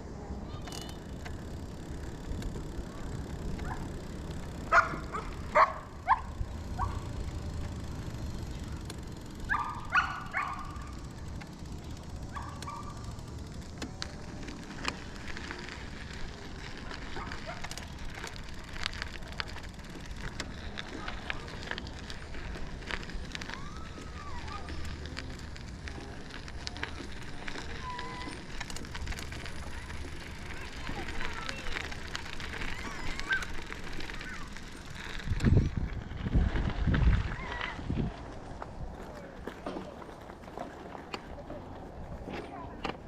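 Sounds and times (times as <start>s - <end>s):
wind and road rumble: 0.0s - 43.0s.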